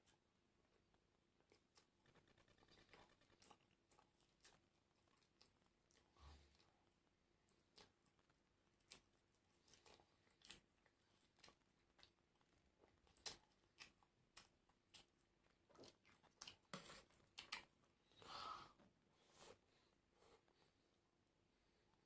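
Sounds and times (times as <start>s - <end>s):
chewing crispy food: 0.0s - 18.0s.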